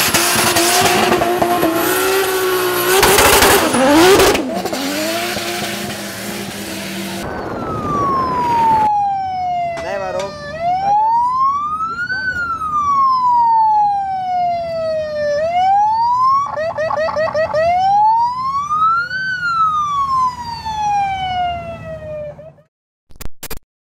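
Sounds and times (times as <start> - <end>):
engines humming in traffic: 0.0 - 22.7
police siren wailing: 0.4 - 22.7
siren yelping: 0.6 - 5.9, 6.5 - 22.7.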